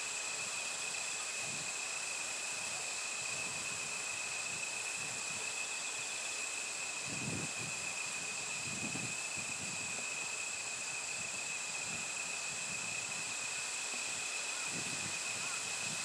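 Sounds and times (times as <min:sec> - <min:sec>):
insects chirring: 0:00.1 - 0:16.0.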